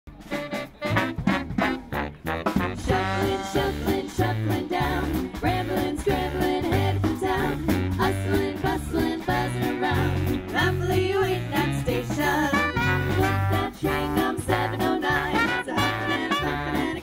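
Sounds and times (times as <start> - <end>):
live swing band music: 0.1 - 17.0
women singing into microphones: 2.9 - 17.0.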